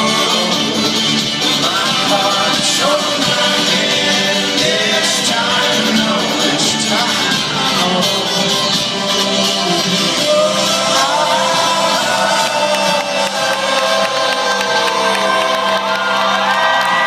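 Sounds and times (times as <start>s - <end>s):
crowd noise: 0.0s - 17.0s
folk-rock band with singing: 0.0s - 17.0s.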